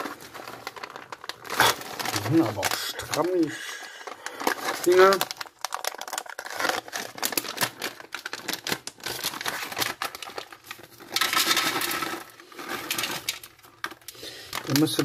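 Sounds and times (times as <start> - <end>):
plastic pouch crinkling: 0.0 - 15.0
plastic tearing rasp: 0.0 - 15.0.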